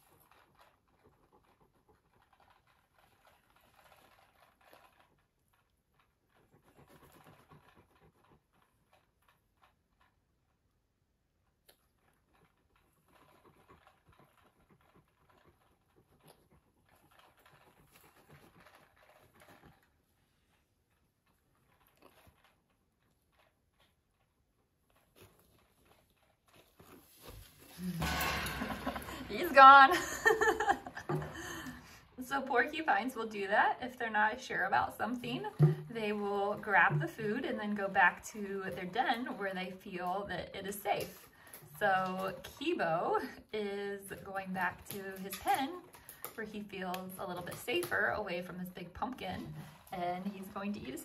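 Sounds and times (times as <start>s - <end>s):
porcupine gnawing pumpkin: 0.0s - 51.0s.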